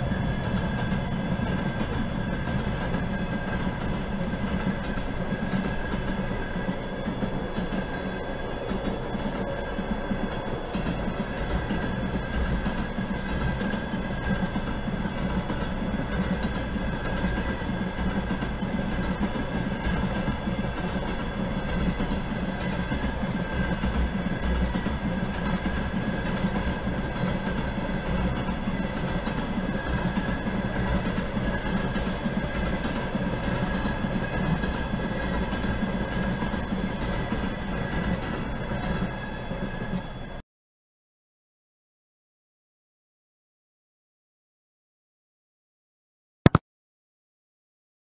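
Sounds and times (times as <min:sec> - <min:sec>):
train wheels on rails: 0:00.0 - 0:40.4.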